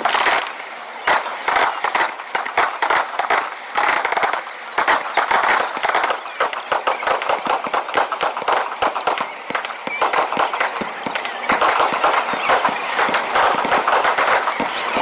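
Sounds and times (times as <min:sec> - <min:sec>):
fireworks crackling: 0:00.0 - 0:15.0
sharp firework pops: 0:00.0 - 0:15.0.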